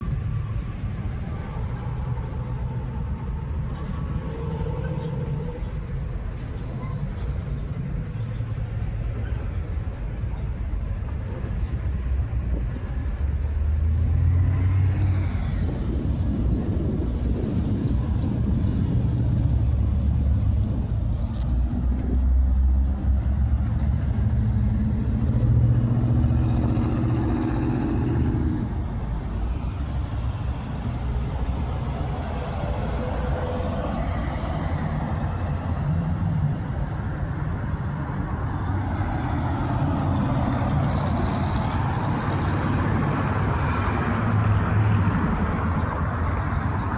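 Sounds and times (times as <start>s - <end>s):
car engine rumbling and revving: 0.0s - 46.9s.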